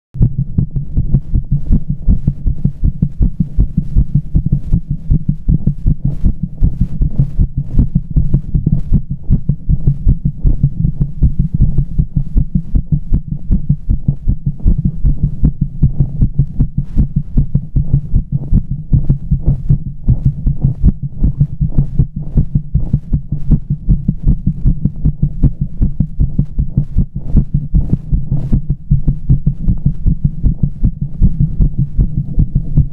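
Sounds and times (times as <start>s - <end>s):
heartbeat: 0.2s - 32.9s.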